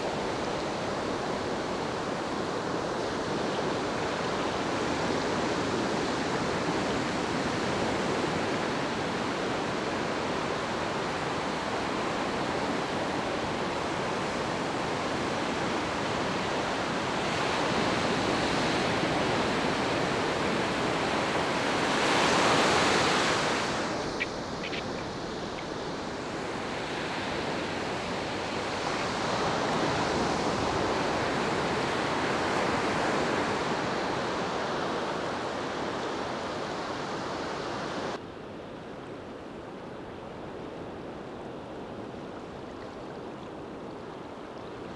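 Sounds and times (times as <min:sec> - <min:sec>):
ocean surf on beach: 0:00.0 - 0:44.9.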